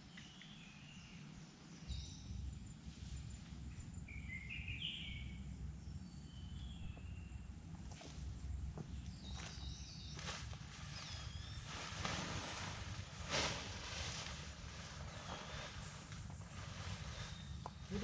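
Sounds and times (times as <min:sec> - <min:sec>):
low rumble: 0:01.9 - 0:18.0.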